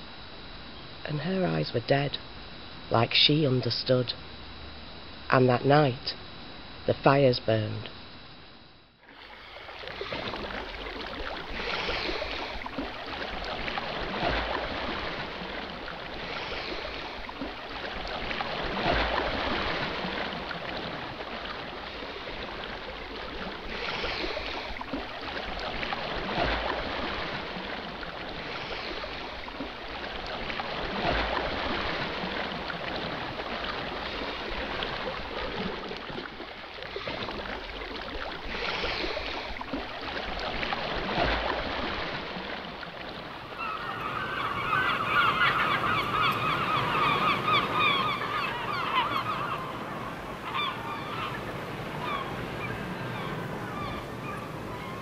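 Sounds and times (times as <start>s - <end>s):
water splashing and sloshing: 7.9s - 55.0s.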